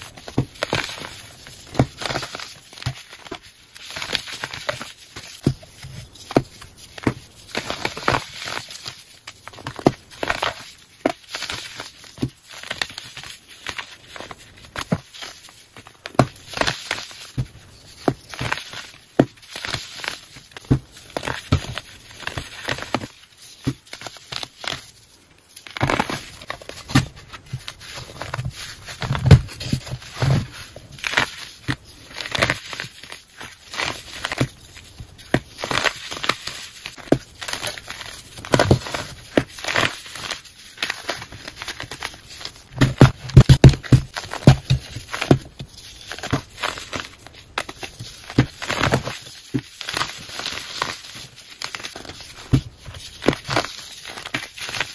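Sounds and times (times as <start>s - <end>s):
hands crushing dry powder slabs: 0.0s - 54.9s.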